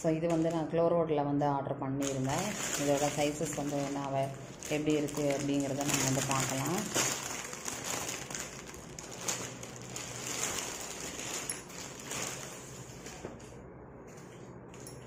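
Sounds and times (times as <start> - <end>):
plastic packaging crinkling: 0.0 - 0.7, 2.0 - 13.4.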